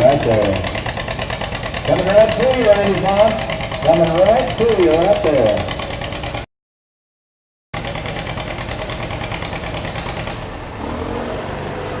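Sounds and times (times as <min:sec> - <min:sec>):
tractor engine running: 0:00.0 - 0:06.5, 0:07.8 - 0:10.9.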